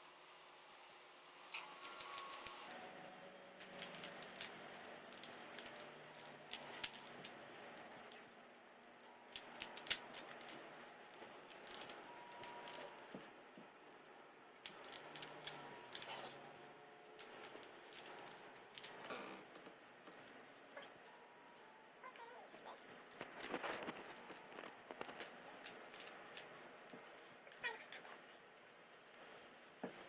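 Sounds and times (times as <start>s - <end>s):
puzzle clicks and rattles: 1.6s - 21.2s, 22.6s - 30.0s.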